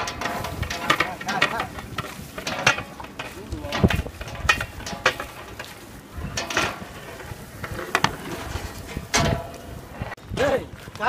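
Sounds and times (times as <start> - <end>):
paddle scraping metal pot: 0.0 - 10.2.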